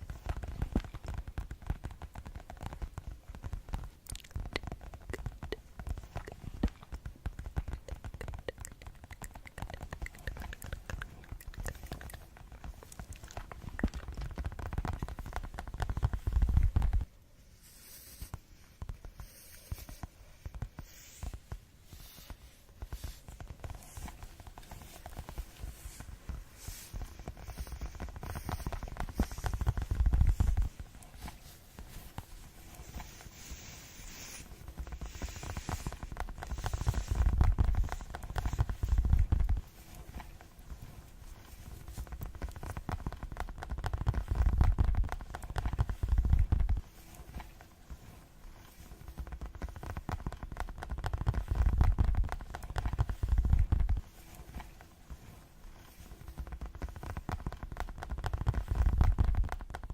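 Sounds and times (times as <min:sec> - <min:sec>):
rapid light tapping: 0:00.0 - 0:59.9.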